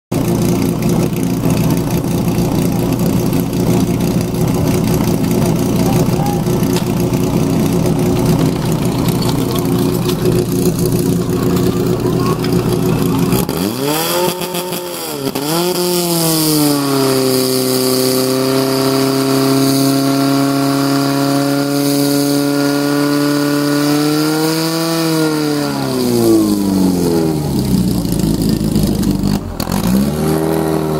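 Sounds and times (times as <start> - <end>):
pump engine at full throttle: 0.1 - 30.9.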